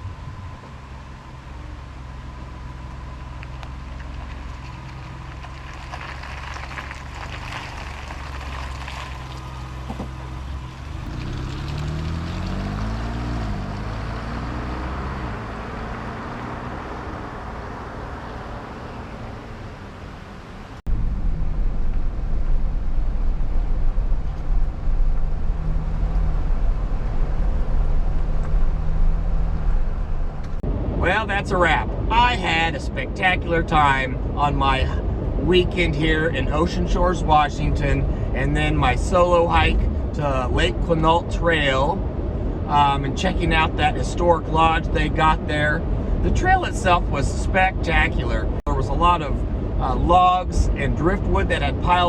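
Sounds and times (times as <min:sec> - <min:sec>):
car engine running: 0:00.0 - 0:52.0
road noise: 0:00.0 - 0:52.0.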